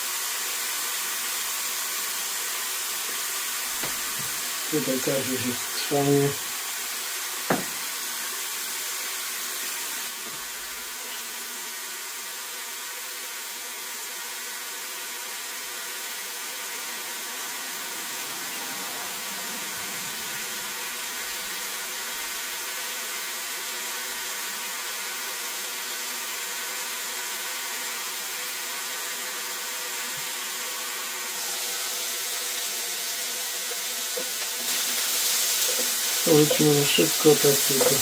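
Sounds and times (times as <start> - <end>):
food sizzling on grill: 0.0 - 38.0.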